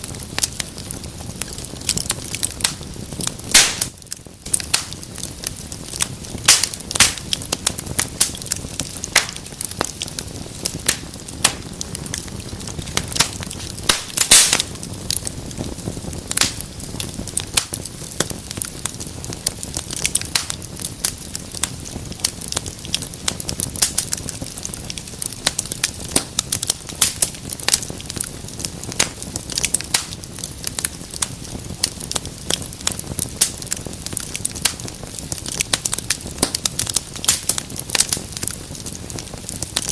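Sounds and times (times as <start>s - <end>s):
low hiss of burning: 0.0s - 39.9s
wood fire crackling and popping: 0.0s - 39.9s.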